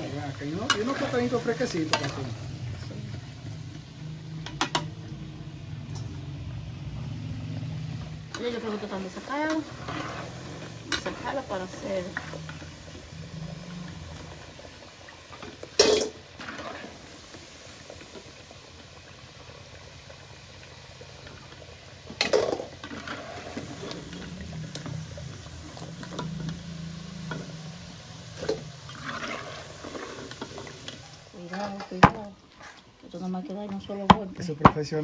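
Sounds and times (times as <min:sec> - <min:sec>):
plantains sizzling in a frying pan: 0:00.0 - 0:35.0.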